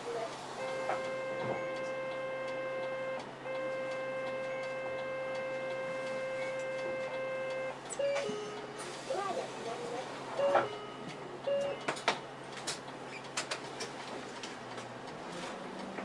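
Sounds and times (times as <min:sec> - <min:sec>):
bus cabin hum: 0:00.0 - 0:16.0.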